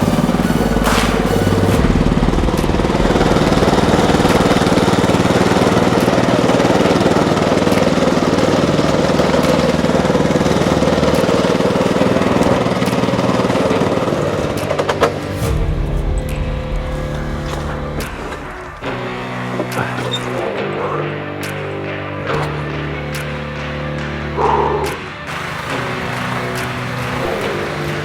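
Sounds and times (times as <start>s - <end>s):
walk-behind tractor engine running: 0.0s - 15.4s, 17.1s - 28.0s.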